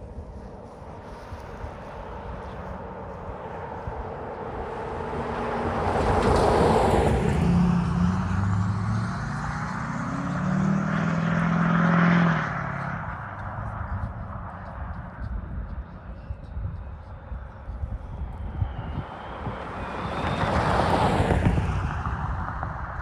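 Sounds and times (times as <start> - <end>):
engine hum: 0.0 - 23.0
motor vehicle passing: 0.0 - 23.0.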